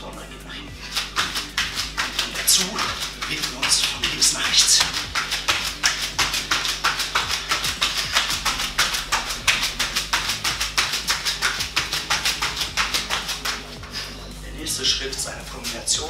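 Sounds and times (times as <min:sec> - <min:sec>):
background music with crisp percussion: 0:00.0 - 0:16.0.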